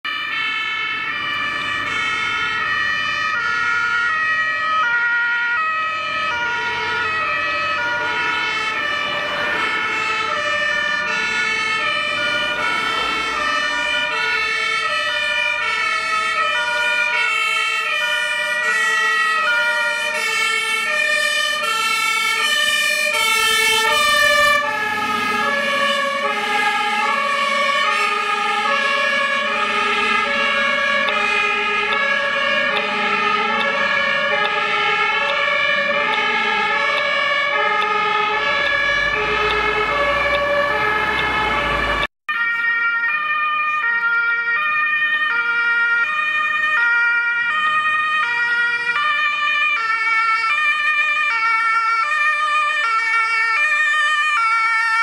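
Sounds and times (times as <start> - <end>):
two-tone sirens: 0.0 - 55.0.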